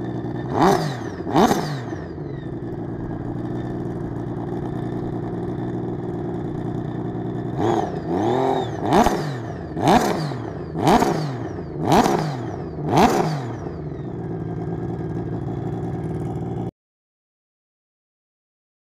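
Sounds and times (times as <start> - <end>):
watercraft engine idling and revving: 0.0 - 16.7.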